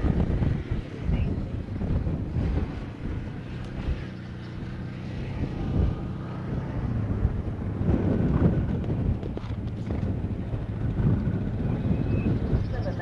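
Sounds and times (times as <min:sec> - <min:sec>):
low engine drone: 0:00.0 - 0:13.0
wind buffeting microphone: 0:00.0 - 0:13.0.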